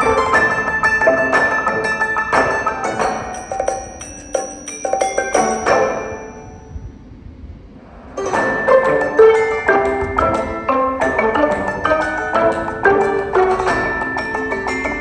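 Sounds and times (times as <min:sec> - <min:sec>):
plucked and chiming music: 0:00.0 - 0:06.9, 0:08.2 - 0:15.0.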